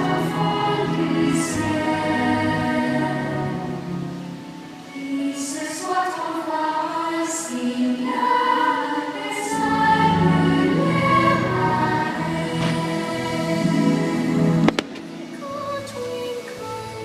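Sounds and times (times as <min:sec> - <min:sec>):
soundtrack music with choir: 0:00.0 - 0:17.0.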